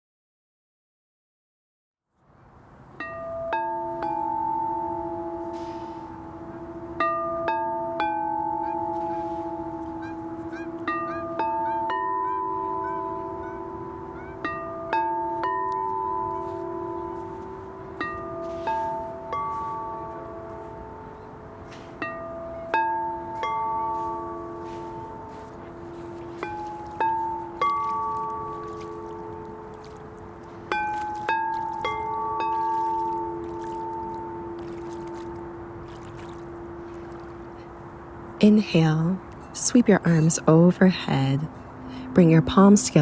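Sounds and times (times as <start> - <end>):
bell-like struck notes melody: 3.0 - 43.0
steady low tone: 3.0 - 43.0.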